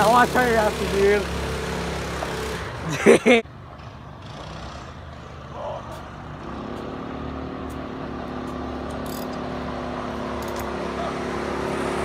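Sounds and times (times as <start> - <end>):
go-kart engine running hard: 0.0 - 5.0, 6.4 - 12.0.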